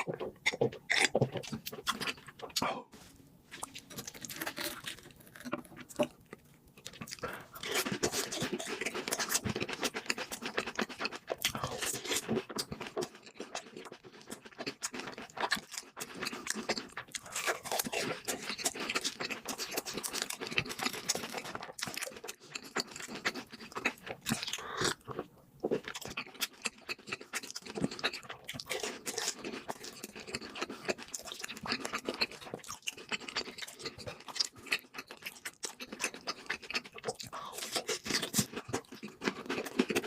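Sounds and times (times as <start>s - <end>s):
person chewing crunchy food: 0.0s - 40.0s.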